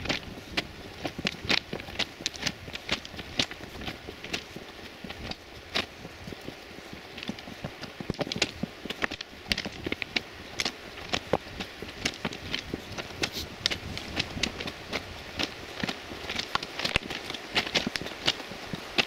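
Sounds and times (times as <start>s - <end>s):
footsteps crunching on gravel: 0.0s - 19.0s.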